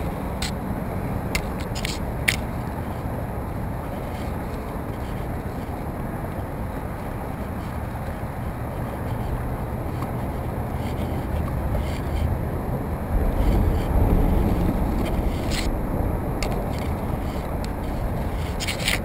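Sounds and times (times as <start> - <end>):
flag clicking and scraping: 0.0 - 3.2, 3.8 - 12.5, 13.2 - 19.0
wind buffeting microphone: 0.0 - 19.0.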